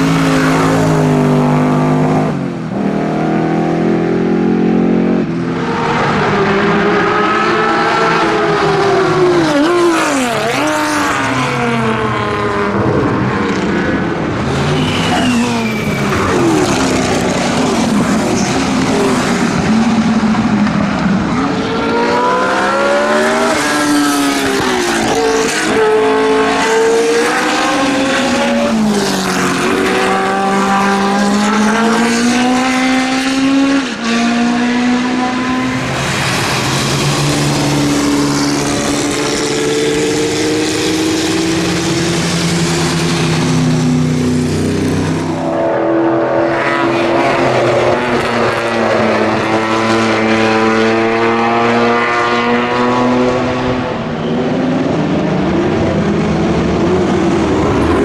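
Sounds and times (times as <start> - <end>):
racing car engines at high revs: 0.0 - 58.0.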